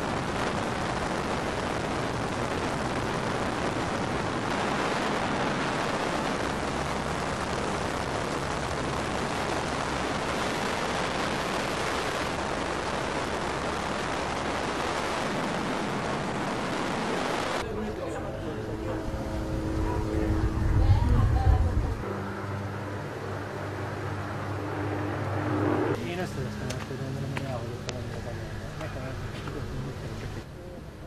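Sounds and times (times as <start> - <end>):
helicopter roar: 0.0 - 30.6.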